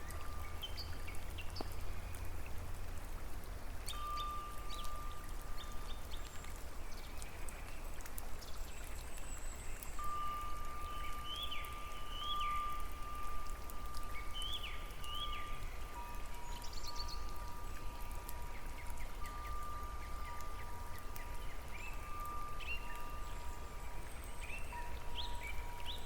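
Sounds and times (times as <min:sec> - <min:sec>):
raindrops ticking: 0:00.0 - 0:26.0
steady rain: 0:00.0 - 0:26.0.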